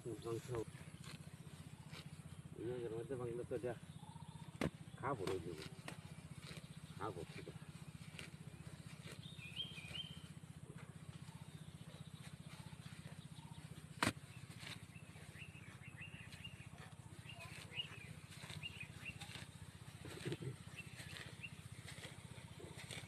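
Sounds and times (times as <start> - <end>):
birds chirping: 0.0 - 23.0
low mechanical hum: 0.0 - 23.0.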